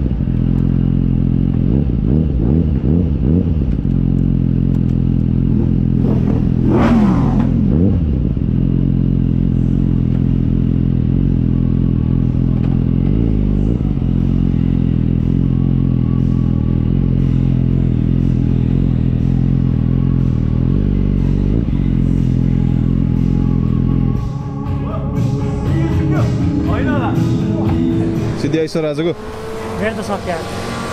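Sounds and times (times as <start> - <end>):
motorcycle engine running: 0.0 - 30.3
second engine rising and falling: 0.0 - 30.9.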